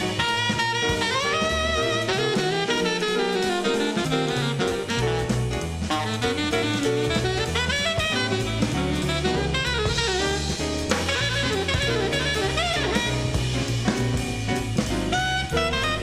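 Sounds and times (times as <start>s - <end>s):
big band jazz from vinyl record: 0.0s - 16.0s.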